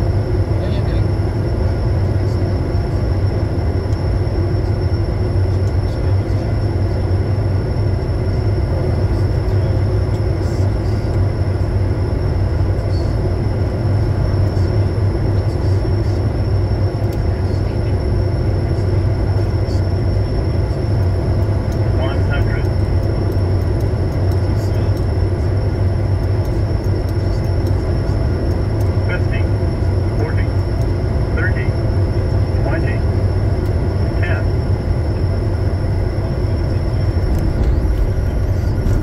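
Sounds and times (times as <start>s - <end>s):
high whine: 0.0s - 39.0s
jet engine and airflow drone: 0.0s - 39.0s.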